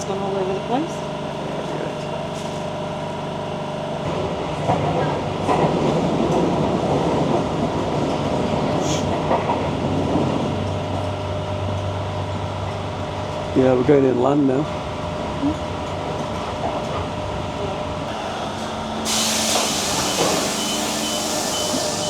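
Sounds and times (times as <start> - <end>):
train wheel and rail rumble: 0.0 - 22.0.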